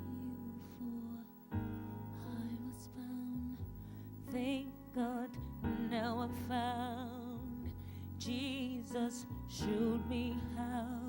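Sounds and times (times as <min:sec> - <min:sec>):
solo voice singing gospel: 0:00.0 - 0:11.0.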